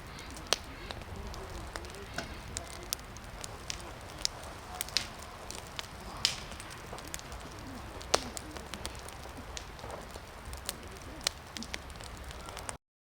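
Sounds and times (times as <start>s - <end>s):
sharp pops and snaps: 0.0s - 12.8s
wood fire crackling: 0.0s - 12.8s.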